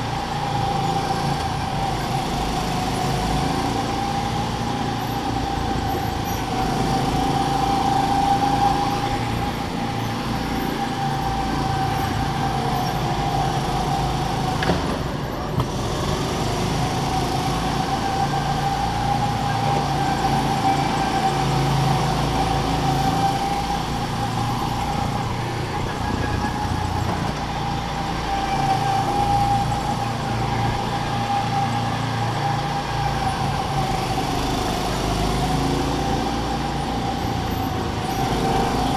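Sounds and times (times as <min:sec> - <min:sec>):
go-kart engine whine: 0:00.0 - 0:38.9.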